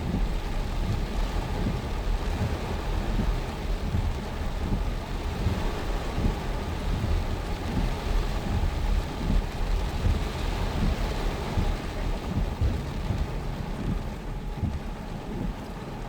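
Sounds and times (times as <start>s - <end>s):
gusting wind rumble: 0.0s - 16.0s
heavy rain hiss: 0.0s - 16.0s.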